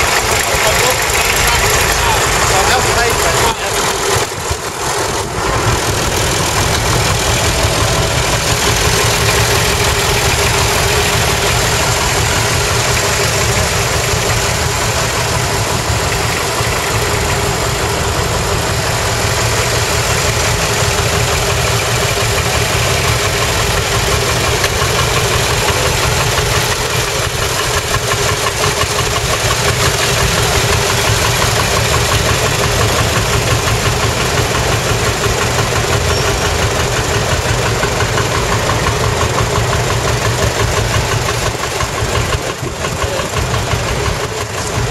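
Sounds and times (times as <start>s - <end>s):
tractor engines idling: 0.0s - 44.9s.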